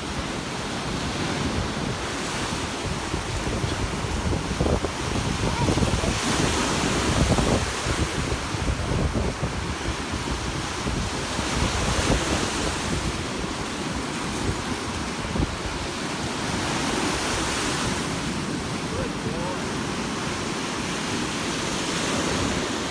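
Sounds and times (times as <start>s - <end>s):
small waves breaking on shore: 0.0s - 22.9s
wind buffeting microphone: 1.0s - 20.3s.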